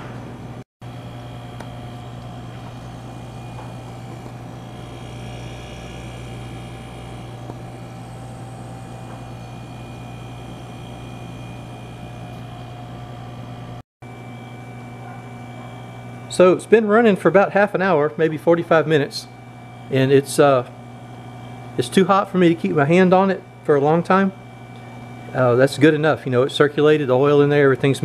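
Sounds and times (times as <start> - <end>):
fridge compressor humming: 0.0 - 28.0.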